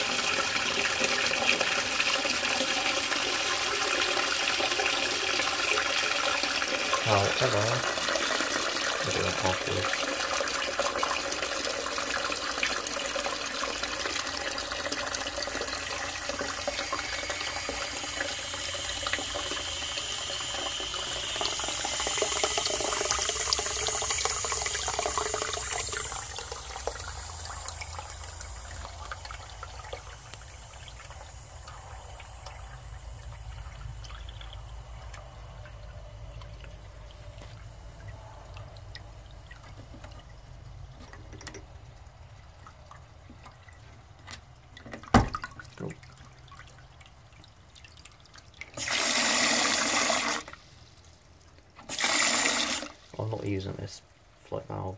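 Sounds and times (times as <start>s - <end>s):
water splashing into toilet tank: 0.0s - 53.4s.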